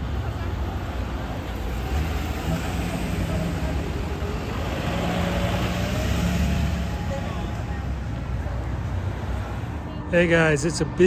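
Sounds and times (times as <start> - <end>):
vehicles driving past: 0.0 - 11.0.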